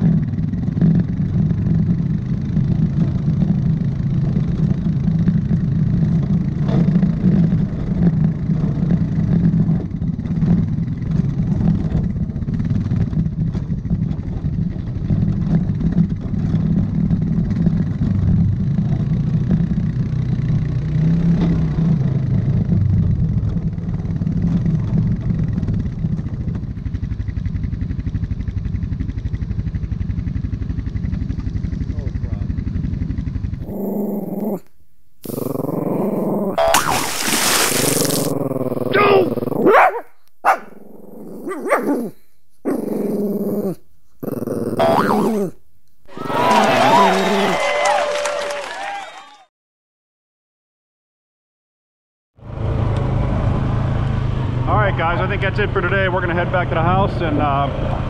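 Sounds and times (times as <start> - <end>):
atv engine revving: 0.0 - 27.0, 27.7 - 47.6, 52.4 - 58.0.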